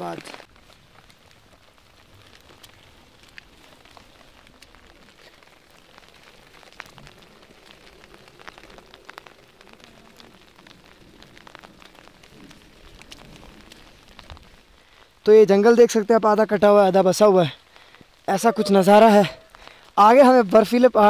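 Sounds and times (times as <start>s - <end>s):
raindrops ticking near microphone: 0.0s - 21.0s
steady rain: 0.0s - 21.0s.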